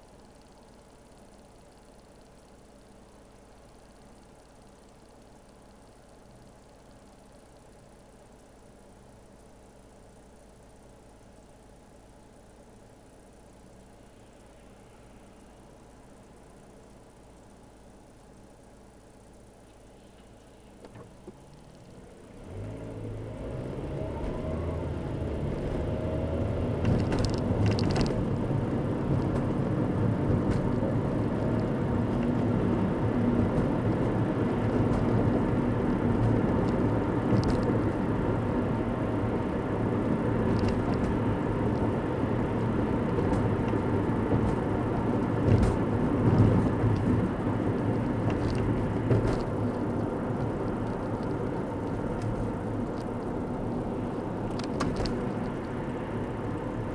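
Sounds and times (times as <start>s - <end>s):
car engine and tyre noise: 0.0s - 56.9s.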